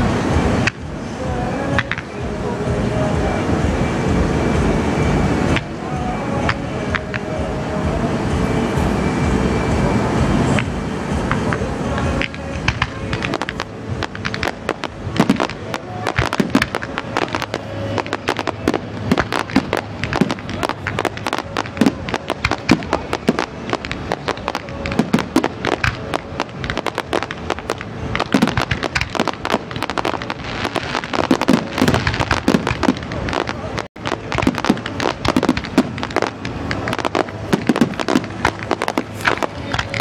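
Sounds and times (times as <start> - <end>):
fireworks bursting: 0.0 - 40.0.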